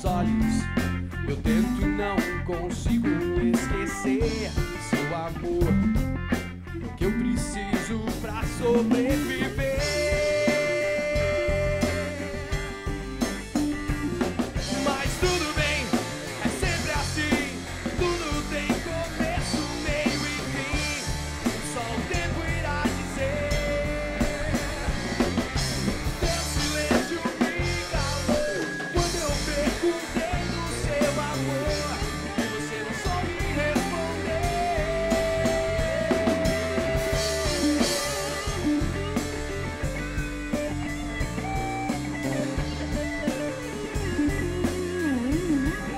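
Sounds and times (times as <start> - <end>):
electric guitar lead line: 0.0 - 45.9
rock band playing live: 0.0 - 45.9.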